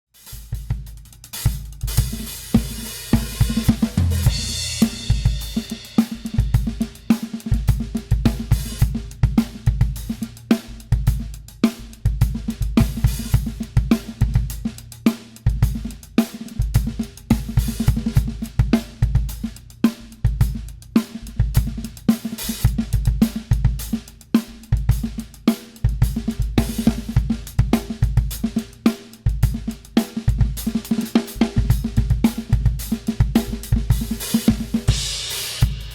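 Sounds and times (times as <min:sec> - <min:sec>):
drum kit groove: 0:00.1 - 0:35.9.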